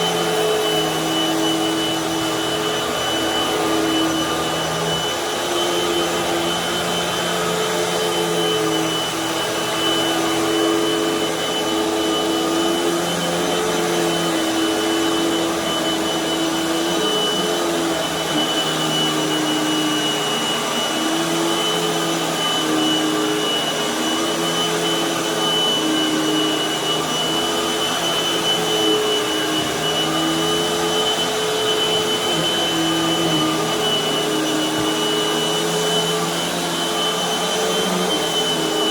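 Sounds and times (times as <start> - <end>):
upright vacuum on carpet: 0.0 - 38.9.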